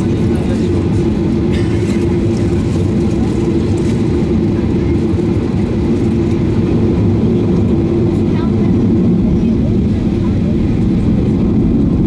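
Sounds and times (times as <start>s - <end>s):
airplane cabin rumble: 0.0s - 12.0s
constant low hum: 0.0s - 12.0s.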